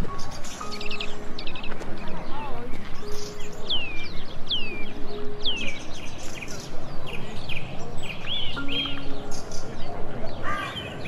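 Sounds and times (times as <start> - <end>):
steady background noise: 0.0 - 11.0
bird chirps: 0.1 - 11.0.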